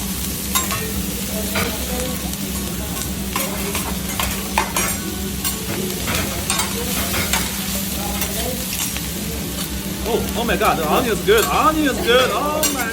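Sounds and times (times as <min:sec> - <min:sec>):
food sizzling on griddle: 0:00.0 - 0:12.9.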